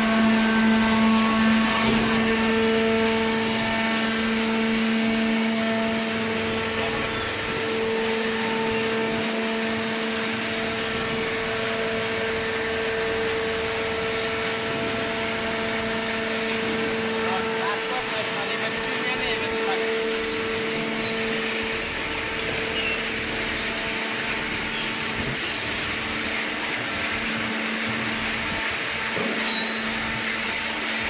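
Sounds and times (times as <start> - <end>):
baler machine hum: 0.0 - 31.0.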